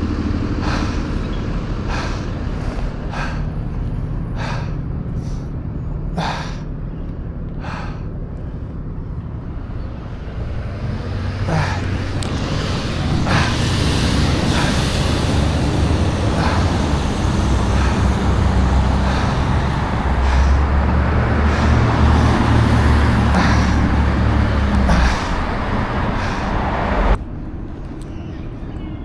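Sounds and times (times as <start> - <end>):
rumble of vehicles passing: 0.0 - 29.0.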